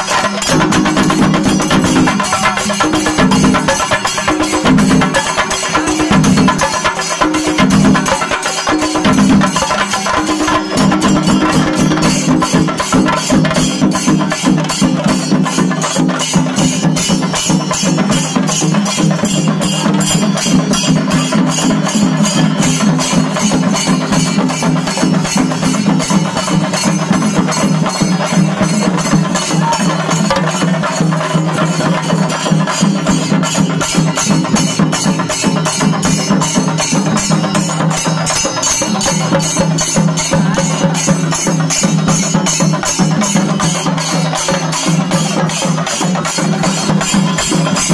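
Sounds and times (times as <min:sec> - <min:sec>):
drums beaten in fast rhythm: 0:00.0 - 0:47.9
hand cymbals ringing: 0:00.0 - 0:47.9.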